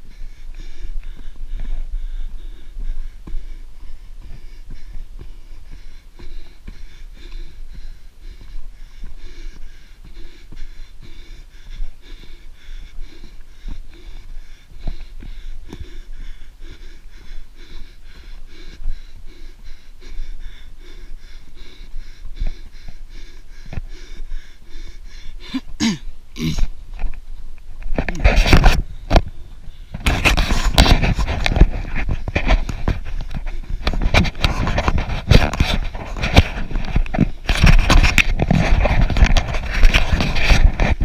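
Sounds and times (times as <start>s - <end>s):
runner breathing: 0.0s - 41.0s
running footfalls: 0.0s - 41.0s.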